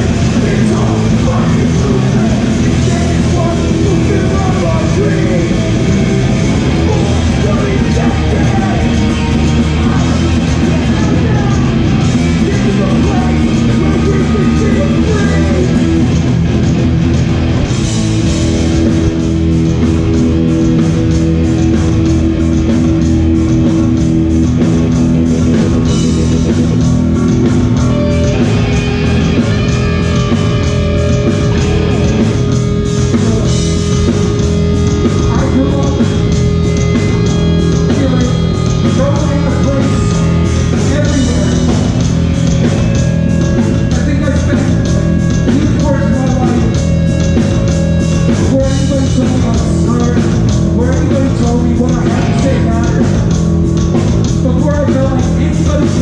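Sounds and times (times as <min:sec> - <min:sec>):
held guitar notes: 0:00.0 - 0:54.4
punk band playing live: 0:00.0 - 0:56.0.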